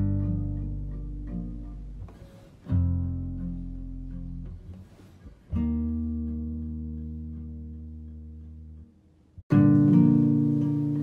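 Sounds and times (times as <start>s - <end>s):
guitar chords ringing: 0.0s - 11.0s.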